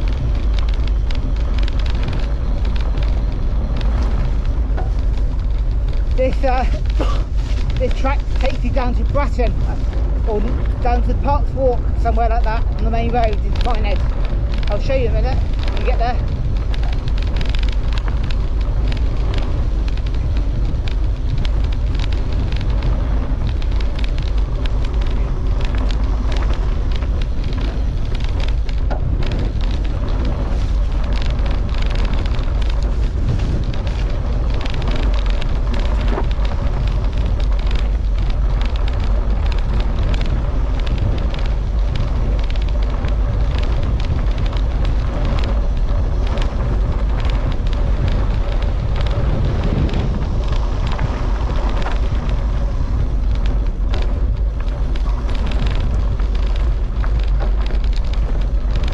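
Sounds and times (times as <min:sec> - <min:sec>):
bike rattling over bumps: 0:00.0 - 0:58.9
heavy rumble: 0:00.0 - 0:58.9
wind buffeting microphone: 0:00.0 - 0:58.9.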